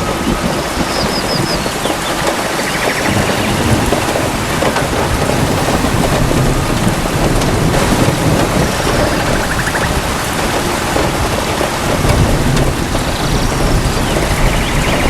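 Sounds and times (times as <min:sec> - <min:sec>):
heavy rain on leaves: 0:00.0 - 0:15.0
low thunder rumbling: 0:00.0 - 0:15.0.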